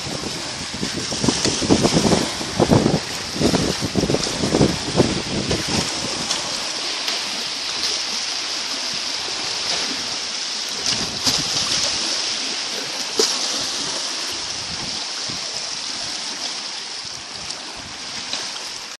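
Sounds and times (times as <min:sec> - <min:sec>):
waves lapping on pebble shore: 0:00.0 - 0:19.0.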